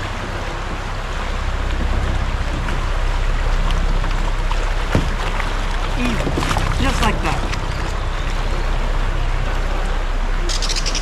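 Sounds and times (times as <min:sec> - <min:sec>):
creek water rushing over rocks: 0:00.0 - 0:11.0
wind rumble on microphone: 0:00.0 - 0:11.0.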